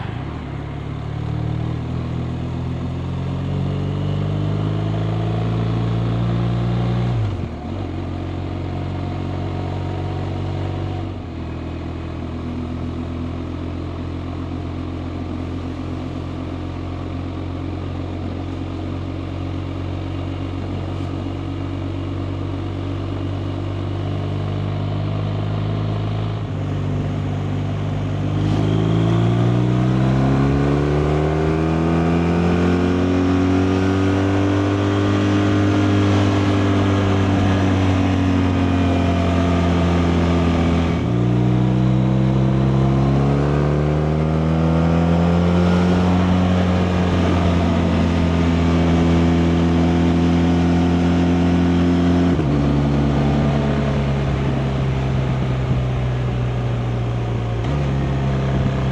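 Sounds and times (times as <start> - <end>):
motorcycle engine: 0.0 - 58.9.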